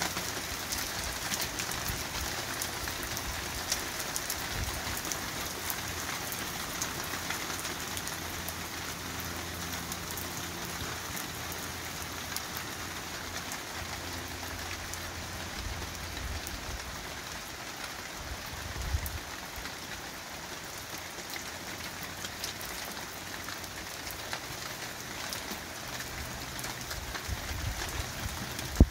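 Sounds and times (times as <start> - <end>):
heavy rain on pavement and bins: 0.0 - 28.9.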